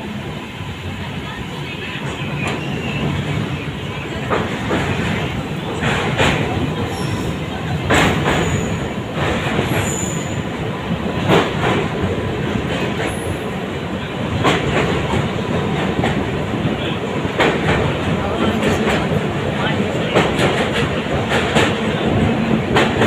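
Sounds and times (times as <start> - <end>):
train wheels clattering on rails: 1.7 - 23.0.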